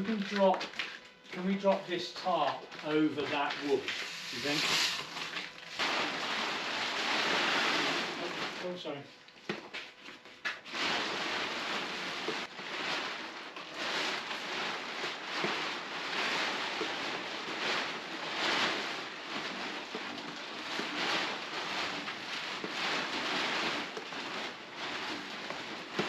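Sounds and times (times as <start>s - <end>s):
plastic tarp rustling and crinkling: 0.0s - 26.0s.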